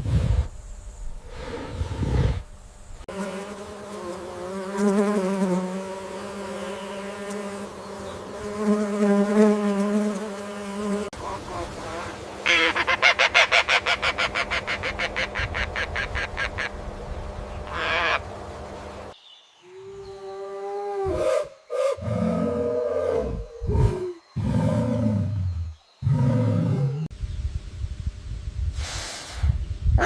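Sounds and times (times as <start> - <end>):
insect buzzing: 0.0 - 27.4.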